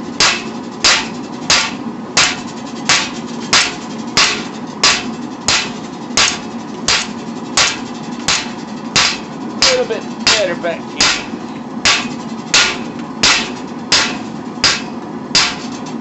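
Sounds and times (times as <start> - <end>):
constant background roar: 0.0 - 16.0
hammer striking steel on anvil: 0.2 - 15.9.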